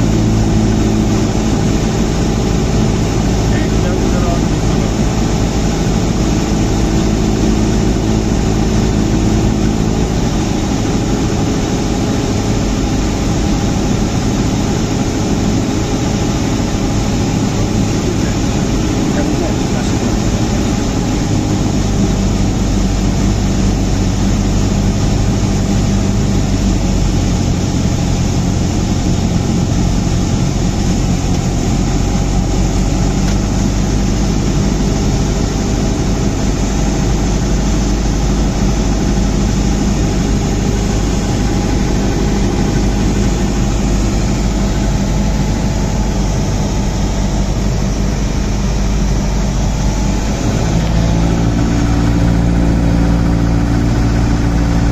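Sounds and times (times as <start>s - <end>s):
airplane engine and propeller: 0.0s - 54.9s.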